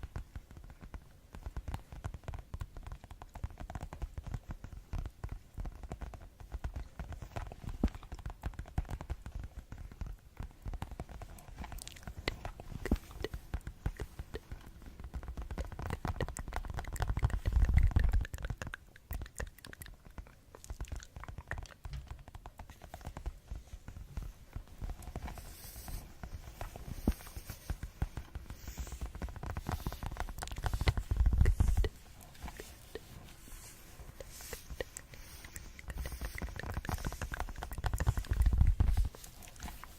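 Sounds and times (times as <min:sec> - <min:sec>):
finger tapping on objects: 0:00.0 - 0:39.9.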